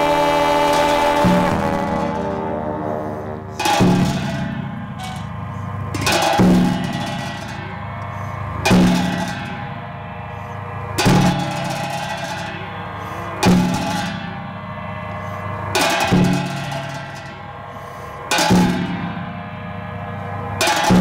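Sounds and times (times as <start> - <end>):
cymbals clashing: 0.0 - 21.0
large drum strikes: 0.0 - 21.0
wind instruments droning: 0.0 - 21.0.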